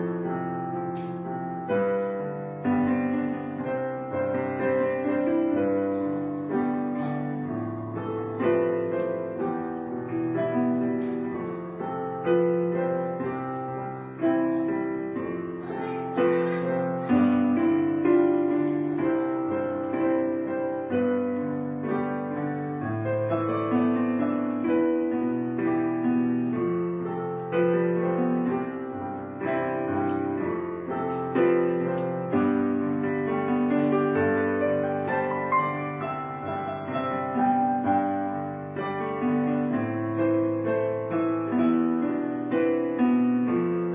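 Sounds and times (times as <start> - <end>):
gentle slow piano piece: 0.0 - 43.9.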